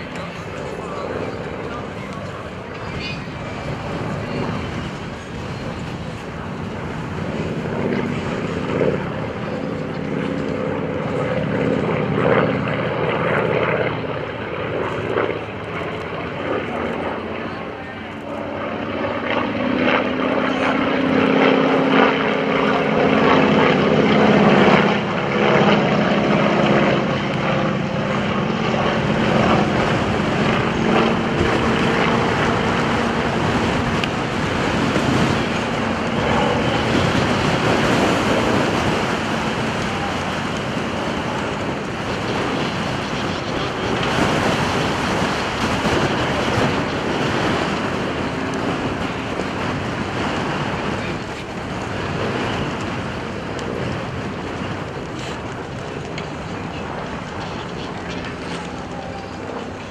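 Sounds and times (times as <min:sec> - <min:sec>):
biplane engines humming: 0:00.0 - 0:59.9
wind on microphone: 0:00.0 - 0:59.9.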